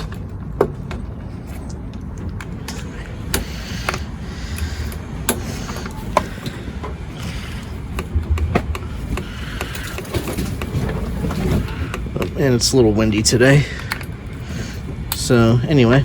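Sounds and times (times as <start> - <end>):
clicks and knocks of handled parts: 0.0 - 12.4, 13.7 - 15.5
wind buffeting microphone: 0.0 - 16.0.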